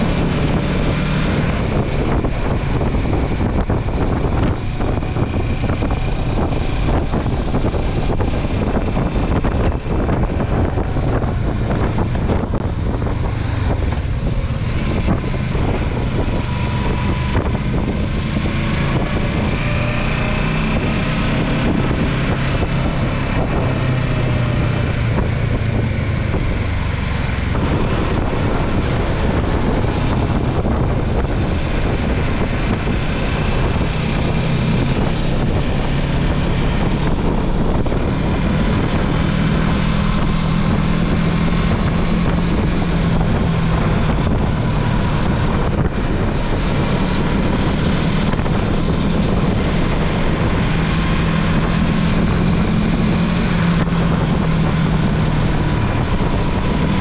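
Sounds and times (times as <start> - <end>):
steady low rumble: 0.0 - 57.0
wind buffeting microphone: 0.0 - 57.0.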